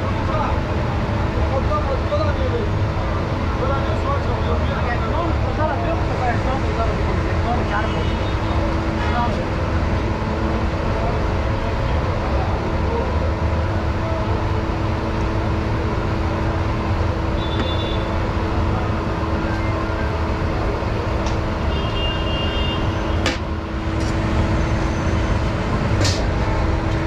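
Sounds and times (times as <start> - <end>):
constant low hum: 0.0 - 27.0
street traffic rumble: 0.0 - 27.0.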